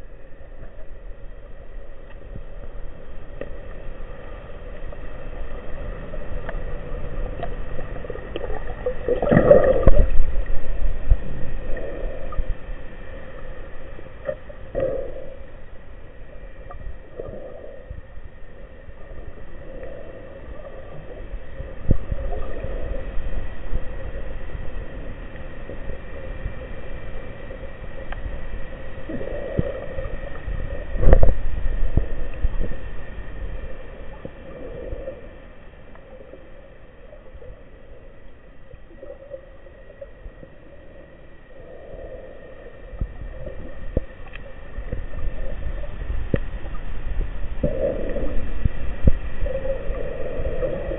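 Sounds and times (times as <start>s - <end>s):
underwater rumble of moving water: 0.0s - 50.9s.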